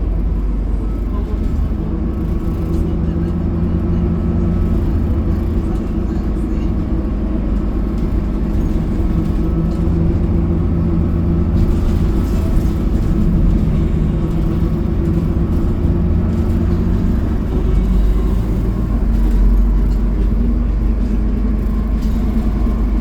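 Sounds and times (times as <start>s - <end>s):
bus engine humming: 0.0s - 23.0s
road noise: 0.0s - 23.0s.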